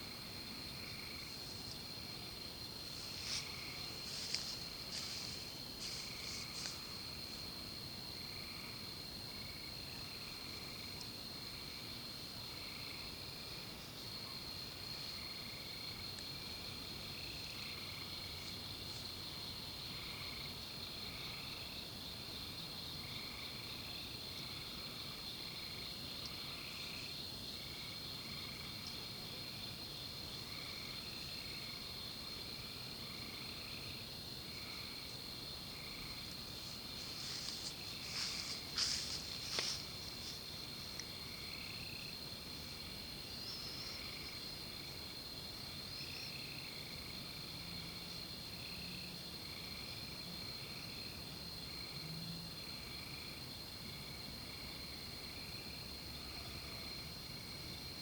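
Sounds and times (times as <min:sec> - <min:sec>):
short low insect calls: 0:00.0 - 0:53.4
crickets trilling: 0:00.0 - 0:58.0.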